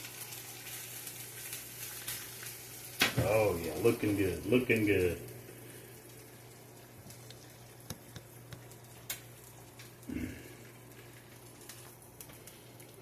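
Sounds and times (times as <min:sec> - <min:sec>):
food sizzling in a pan: 0:00.0 - 0:13.0
fat popping and crackling: 0:00.2 - 0:13.0.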